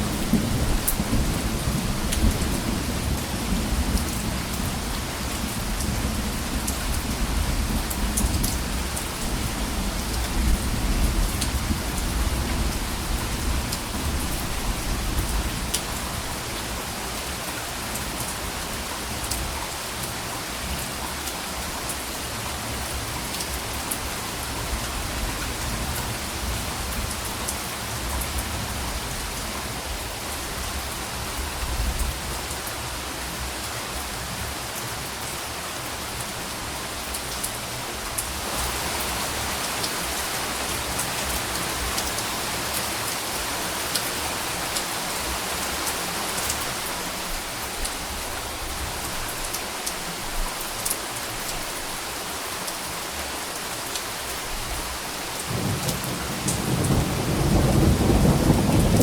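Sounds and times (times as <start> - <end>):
raindrops ticking on a surface: 0.0 - 31.1, 31.7 - 59.0.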